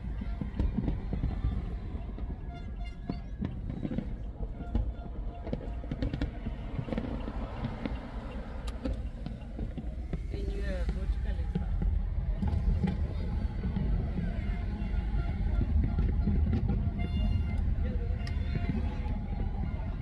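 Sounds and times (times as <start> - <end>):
car road and engine rumble: 0.0 - 20.0
fireworks bursting: 0.0 - 20.0.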